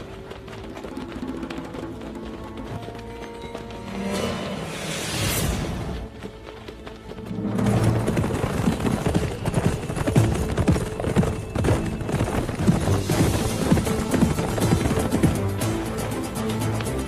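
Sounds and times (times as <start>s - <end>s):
galloping horse hoofbeats on dirt: 0.0s - 4.4s, 5.8s - 17.0s
background music: 0.0s - 17.0s.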